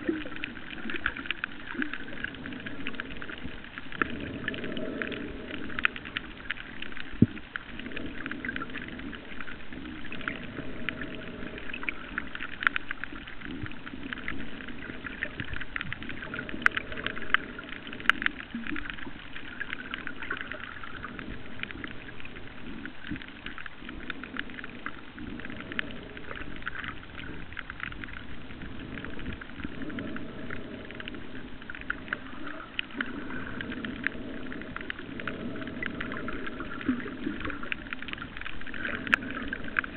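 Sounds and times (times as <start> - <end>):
low underwater rushing: 0.0 - 39.9
underwater clicks crackling: 0.0 - 39.9.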